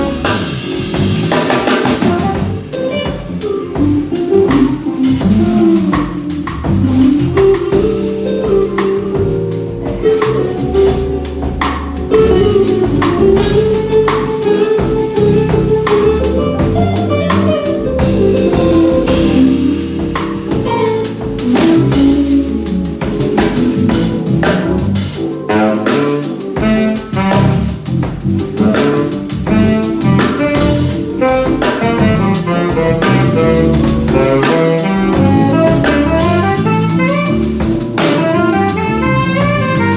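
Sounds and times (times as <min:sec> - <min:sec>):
drum kit beat: 0:00.0 - 0:39.9
live band playing: 0:00.0 - 0:39.9.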